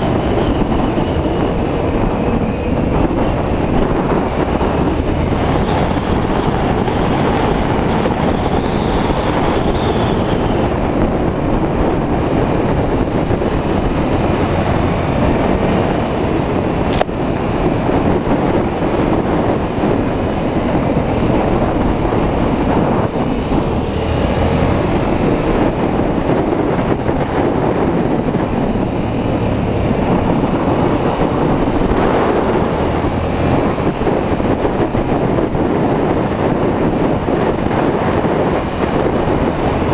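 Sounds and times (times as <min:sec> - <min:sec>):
heavy wind on microphone: 0:00.0 - 0:39.9.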